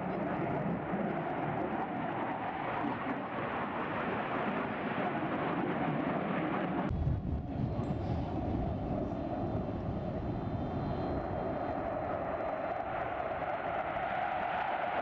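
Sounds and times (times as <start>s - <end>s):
aircraft engine roar: 0.0s - 15.0s.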